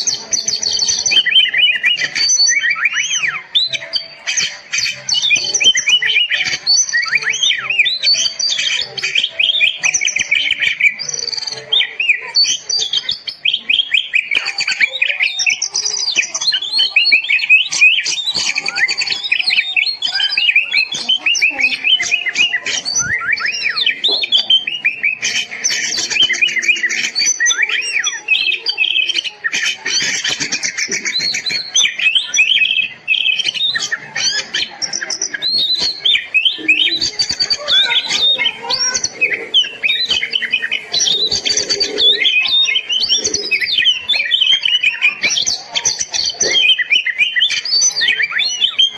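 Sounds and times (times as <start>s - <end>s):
magpie-robin singing: 0.0s - 48.9s.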